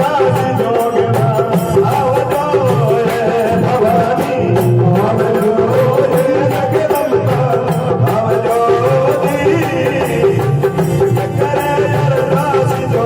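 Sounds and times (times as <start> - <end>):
keyboard melody: 0.0 - 13.0
percussion beat: 0.0 - 13.0.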